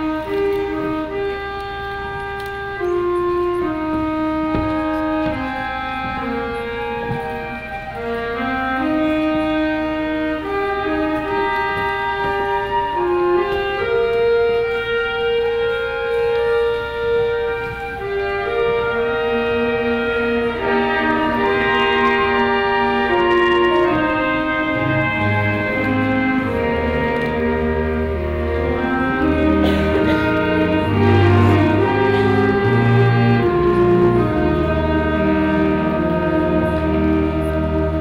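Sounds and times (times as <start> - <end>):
concert band playing: 0.0 - 38.0.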